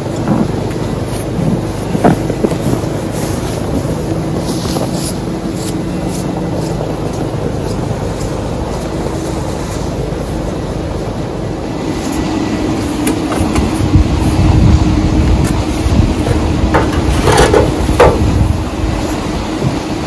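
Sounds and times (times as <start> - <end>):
distant engine drone: 0.0 - 20.0.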